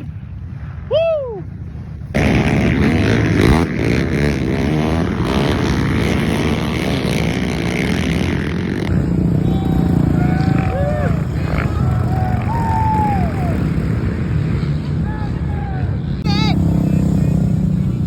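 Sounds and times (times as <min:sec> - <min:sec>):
quad bike engine revving: 0:02.1 - 0:14.9, 0:16.2 - 0:18.0.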